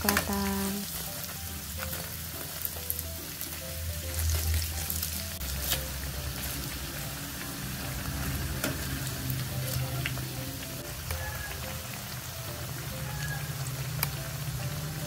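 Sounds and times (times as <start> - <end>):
rolls frying in hot oil: 0.0 - 15.0.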